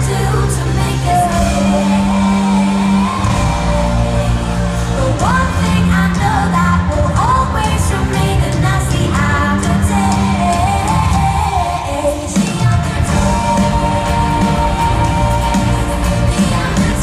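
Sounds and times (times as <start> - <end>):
pop band playing: 0.0 - 17.0
woman singing into microphone: 0.0 - 17.0.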